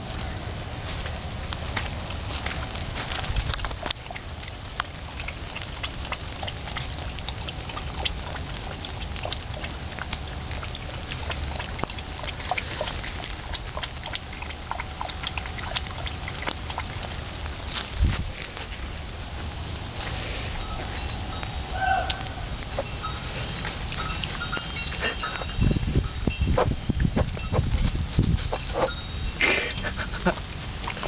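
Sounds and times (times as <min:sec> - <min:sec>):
puppy lapping water: 0:01.6 - 0:21.3, 0:21.9 - 0:31.0.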